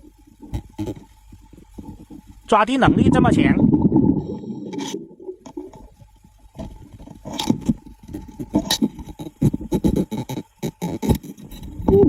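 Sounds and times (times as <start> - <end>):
faint steady hum: 0.0 - 12.0
underwater clicks and knocks: 0.4 - 2.4, 3.7 - 12.0.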